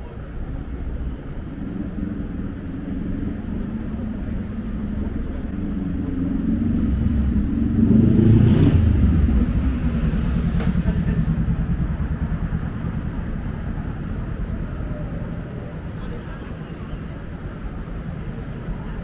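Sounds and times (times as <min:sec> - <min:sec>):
street traffic rumble: 0:00.0 - 0:19.0
vehicle passing: 0:00.6 - 0:19.0.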